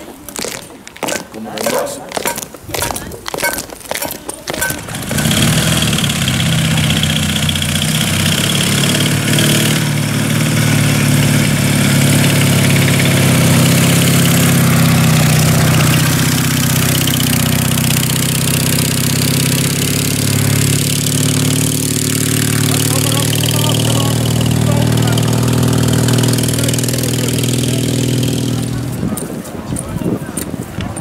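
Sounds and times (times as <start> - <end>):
motorcycle engine running at low revs: 4.7 - 31.0.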